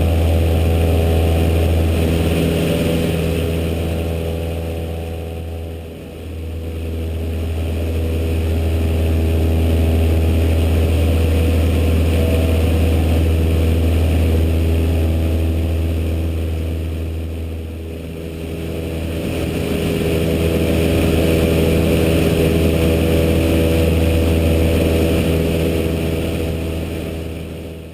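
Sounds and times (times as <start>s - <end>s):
propeller plane engine droning: 0.0s - 27.9s.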